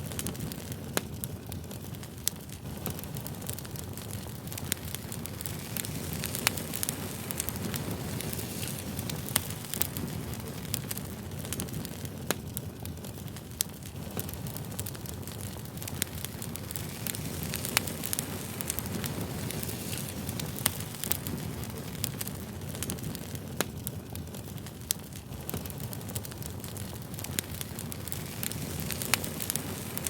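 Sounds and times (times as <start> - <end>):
campfire crackling and popping: 0.0 - 30.0
low rumble of burning wood: 0.0 - 30.0.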